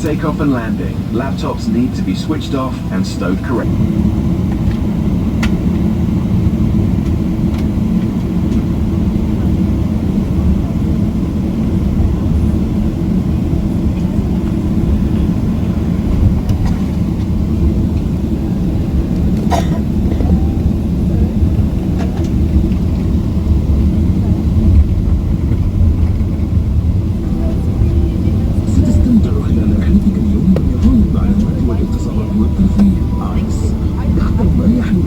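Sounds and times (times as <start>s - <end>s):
airplane cabin rumble: 0.0s - 35.0s.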